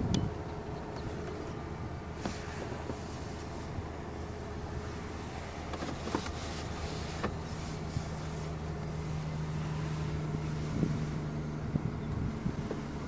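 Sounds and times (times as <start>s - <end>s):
vehicle engine hum and road noise: 0.0s - 13.0s.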